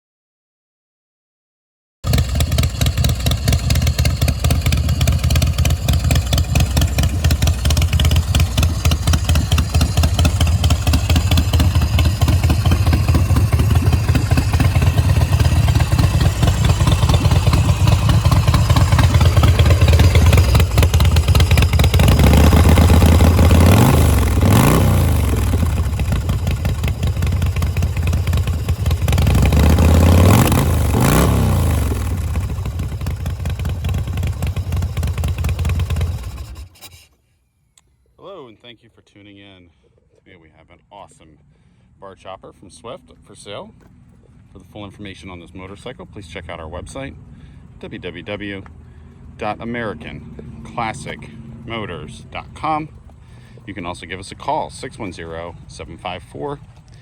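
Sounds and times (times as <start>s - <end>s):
motorcycle engine idling and revving: 2.0s - 37.1s, 43.1s - 57.0s.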